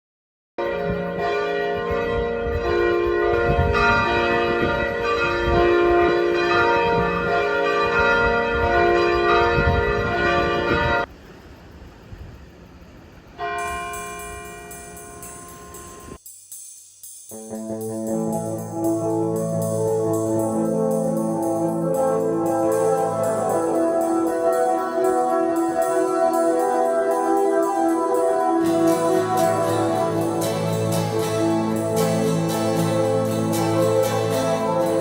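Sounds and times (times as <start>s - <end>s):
church bells ringing: 0.6s - 11.1s, 13.4s - 16.2s, 17.3s - 35.0s.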